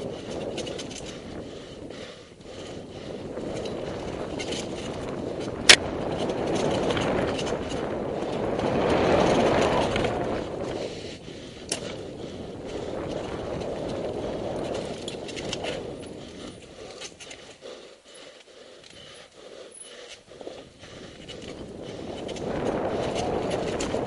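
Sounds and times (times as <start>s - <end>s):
bike clicks and rattles: 0.0s - 24.0s
mountain bike tyre rush: 0.0s - 24.0s.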